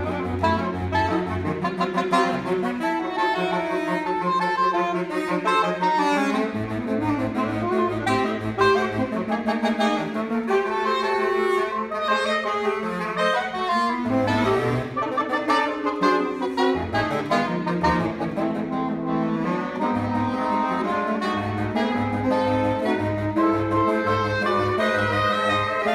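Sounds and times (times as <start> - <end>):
saxophone quartet playing: 0.0 - 25.9.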